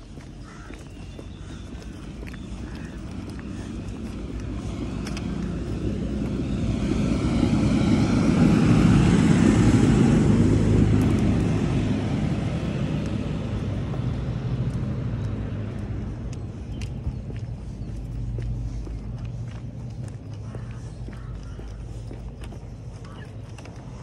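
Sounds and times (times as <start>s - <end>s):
tractor passing by: 0.0s - 24.0s.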